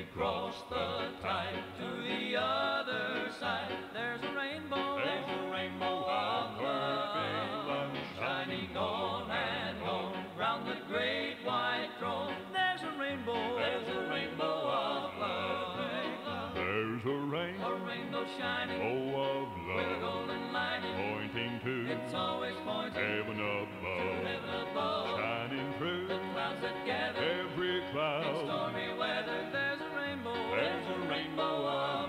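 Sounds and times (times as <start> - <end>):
vocal group singing a hymn: 0.0 - 32.0.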